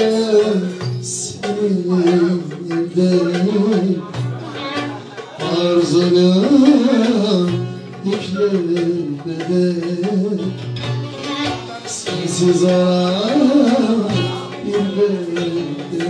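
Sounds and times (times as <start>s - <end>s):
man singing ornamented notes: 0.0s - 10.6s, 11.5s - 16.0s
hand drum: 0.0s - 16.0s
long-necked lute playing: 0.0s - 16.0s.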